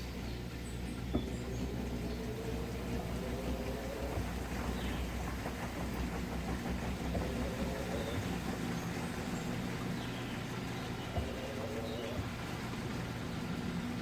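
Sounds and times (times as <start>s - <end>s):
washing machine hum: 0.0s - 14.0s.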